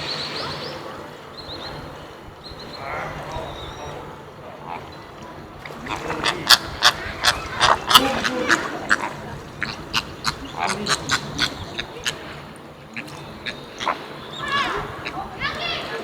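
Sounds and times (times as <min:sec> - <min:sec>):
flamingos honking: 0:00.0 - 0:16.0.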